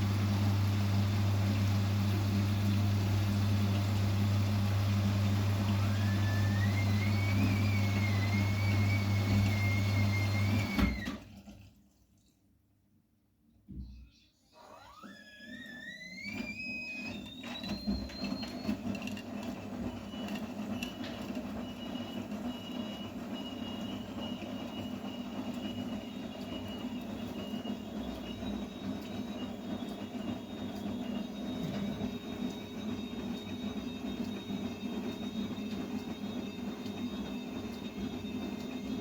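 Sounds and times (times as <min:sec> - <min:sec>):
washing machine running: 0:00.0 - 0:11.9, 0:14.5 - 0:39.0.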